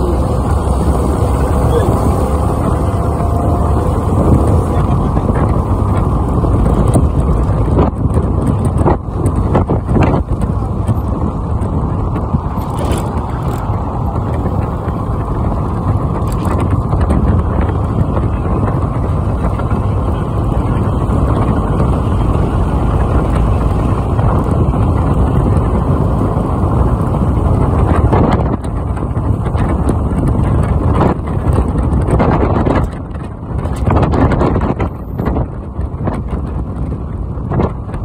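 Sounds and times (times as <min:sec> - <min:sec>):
rushing wind: 0:00.0 - 0:38.0
vehicle road noise: 0:00.0 - 0:38.0.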